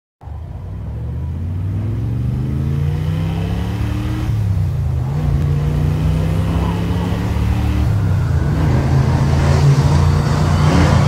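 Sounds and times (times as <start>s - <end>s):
car engine accelerating: 0.2s - 11.0s
road noise inside car: 0.2s - 11.0s.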